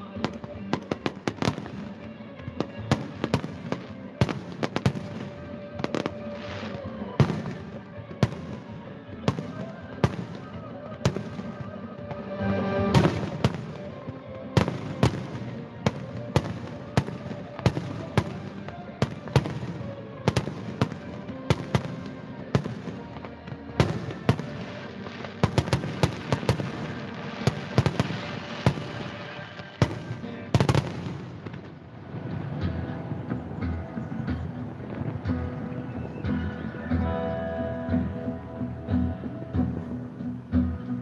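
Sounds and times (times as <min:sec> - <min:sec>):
fireworks banging: 0:00.0 - 0:37.3
music playing: 0:00.0 - 0:41.0.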